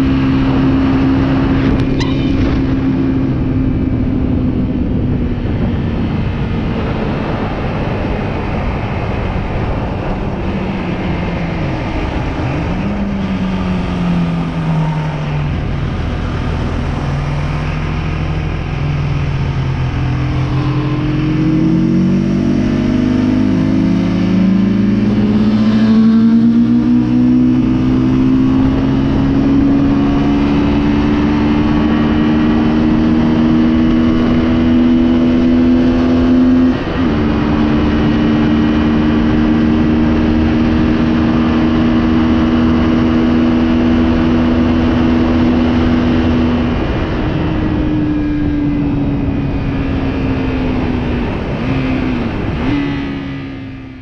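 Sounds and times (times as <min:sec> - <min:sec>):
motorcycle engine accelerating: 0:00.0 - 0:54.0
wind rushing over microphone: 0:00.0 - 0:54.0.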